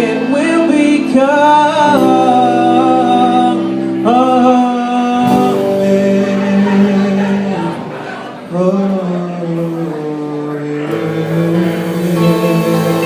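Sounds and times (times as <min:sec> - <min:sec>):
acoustic string band playing: 0:00.0 - 0:13.0
person singing long notes: 0:00.0 - 0:13.0.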